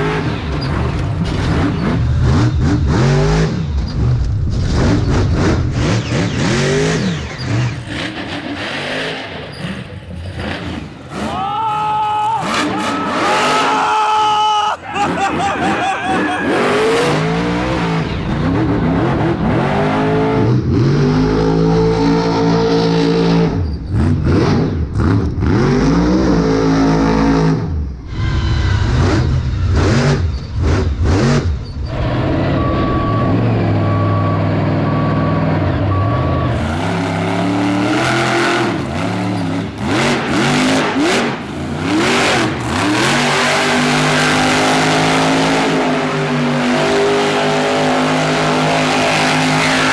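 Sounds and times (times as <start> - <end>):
monster truck engine revving: 0.0 - 49.9.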